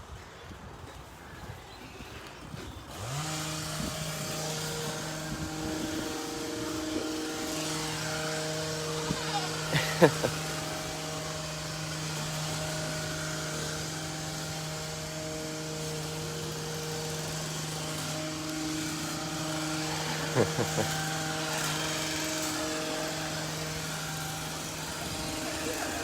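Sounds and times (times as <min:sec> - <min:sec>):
motor humming: 0:02.6 - 0:26.0.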